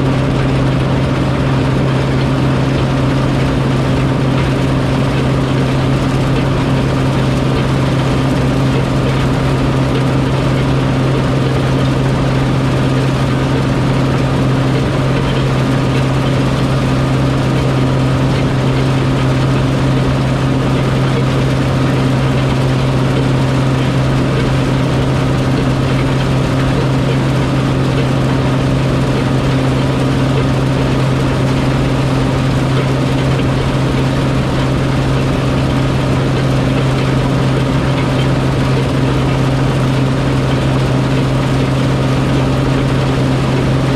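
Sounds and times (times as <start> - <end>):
harvest machinery engine droning: 0.0 - 43.9.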